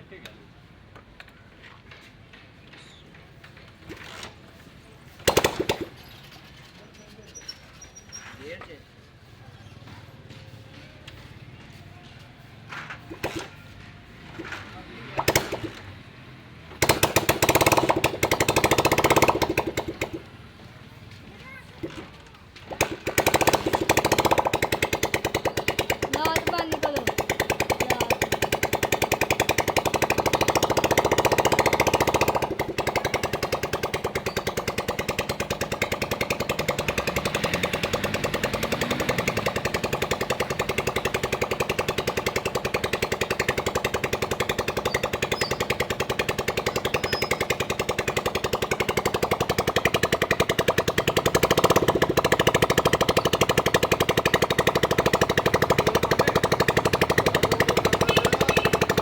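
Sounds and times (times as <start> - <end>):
motorcycle engine running: 9.1 - 59.0.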